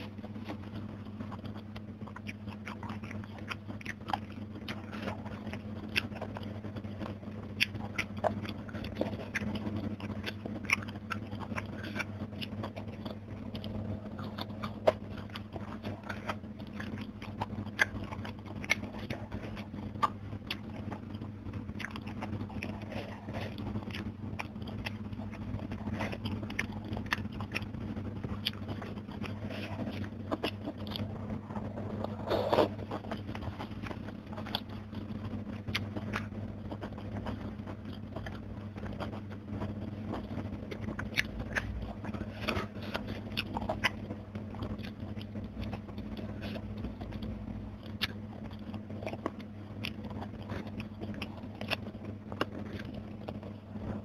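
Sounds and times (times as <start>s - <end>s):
chewing and crunching: 0.0s - 54.0s
faint low hum: 0.0s - 54.0s.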